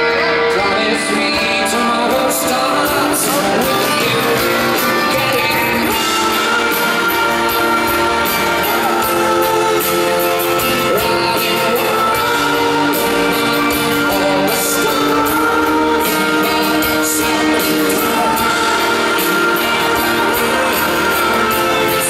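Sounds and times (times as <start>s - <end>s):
person singing: 0.0s - 22.0s
pop-rock band playing: 0.0s - 22.0s
steady drum beat: 1.0s - 22.0s.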